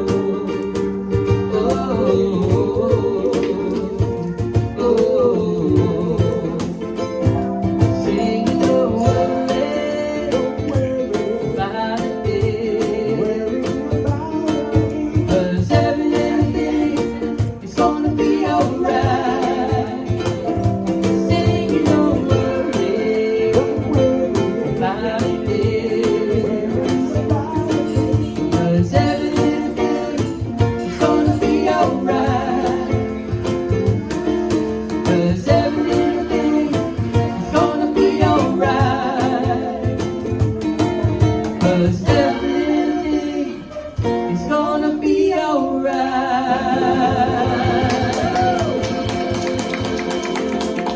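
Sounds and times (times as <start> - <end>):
live reggae band: 0.0 - 50.9
person singing: 0.0 - 50.9
plucked guitar: 0.0 - 50.9.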